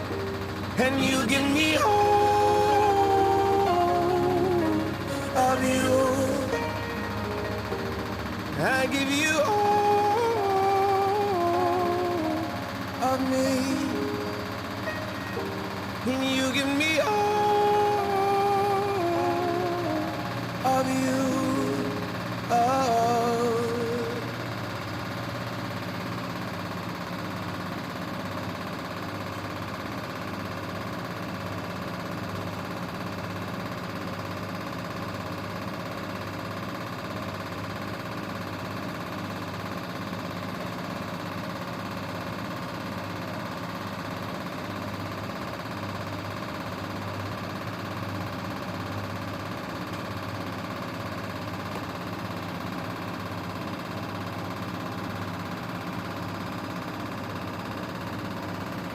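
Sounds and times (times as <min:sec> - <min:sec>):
washing machine spinning: 0:00.0 - 0:58.9.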